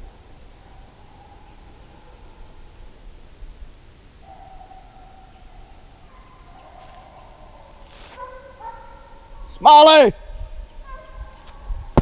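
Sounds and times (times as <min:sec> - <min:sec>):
hounds baying: 0:00.0 - 0:03.0, 0:04.2 - 0:09.6, 0:10.6 - 0:12.0
insects droning: 0:00.0 - 0:12.0.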